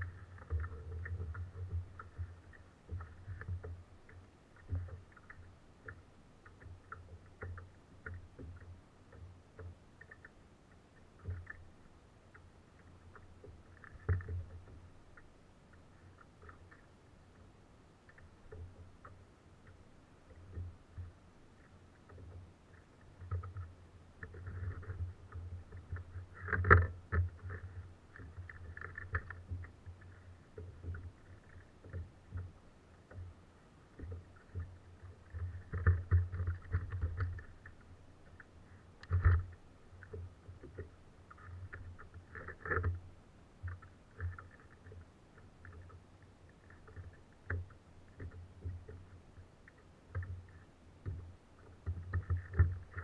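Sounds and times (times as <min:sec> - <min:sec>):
water lapping at hull: 0:00.0 - 0:53.0.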